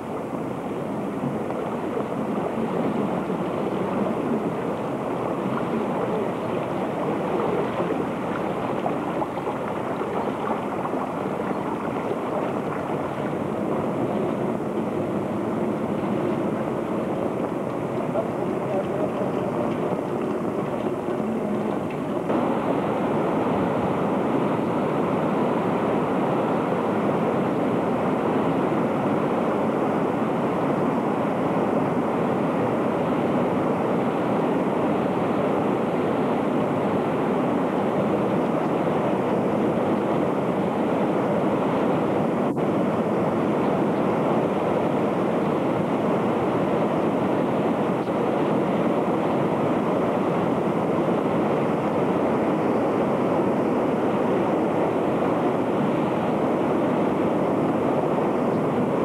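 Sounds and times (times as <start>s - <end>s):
stream rushing in torrent: 0.0s - 59.0s.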